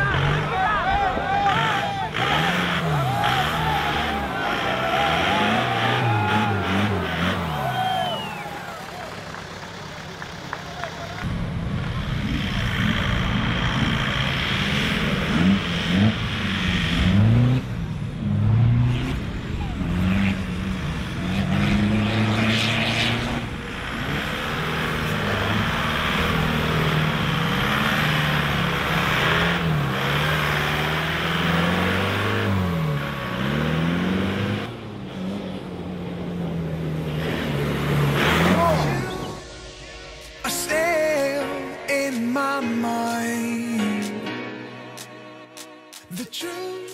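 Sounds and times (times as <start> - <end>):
off-road engine revving: 0.0 - 41.2.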